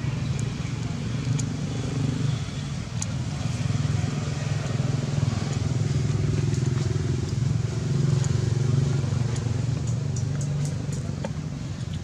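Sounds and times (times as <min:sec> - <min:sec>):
engine droning low: 0:00.0 - 0:12.0.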